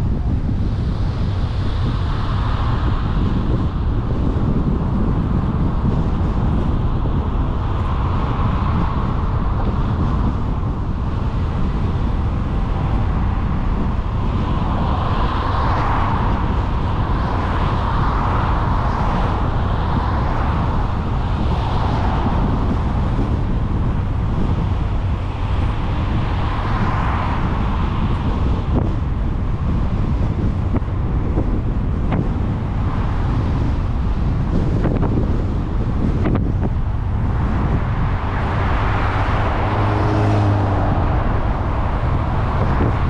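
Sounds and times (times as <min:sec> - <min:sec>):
low rumble of road noise: 0:00.0 - 0:43.0.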